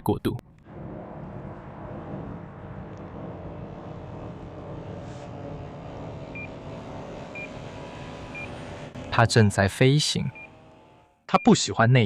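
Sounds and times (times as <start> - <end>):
model aircraft propeller hum: 0.6 - 10.7.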